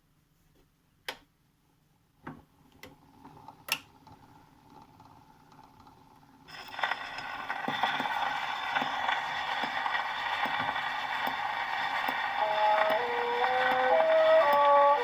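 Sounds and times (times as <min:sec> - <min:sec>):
record surface hiss and crackle: 0:02.1 - 0:15.0.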